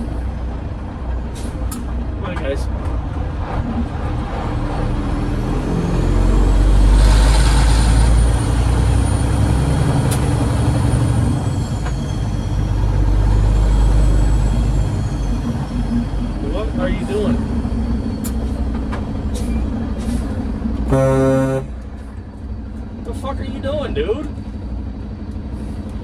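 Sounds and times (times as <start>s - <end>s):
truck diesel engine pulling hard: 0.0s - 26.0s.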